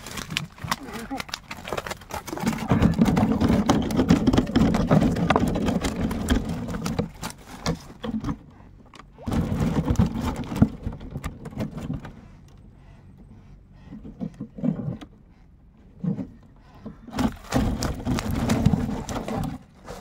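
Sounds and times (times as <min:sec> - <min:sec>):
crackling rustle and scraping: 0:00.0 - 0:20.0.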